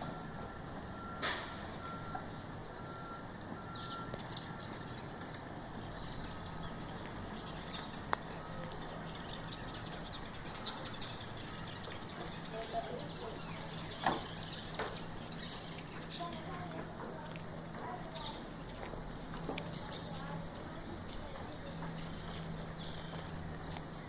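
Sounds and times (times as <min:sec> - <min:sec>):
birds chirping: 0:00.0 - 0:24.0
steady background noise: 0:00.0 - 0:24.0.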